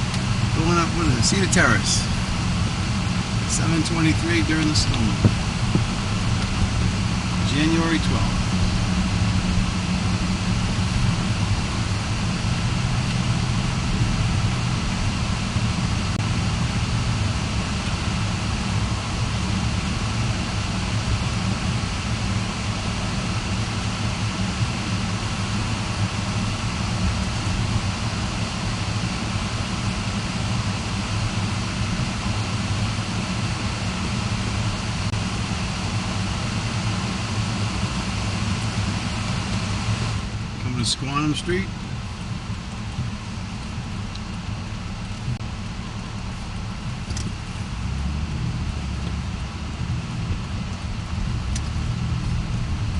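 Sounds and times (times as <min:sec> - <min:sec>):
car engine hum from cabin: 0:00.0 - 0:52.9
road noise: 0:00.0 - 0:52.9.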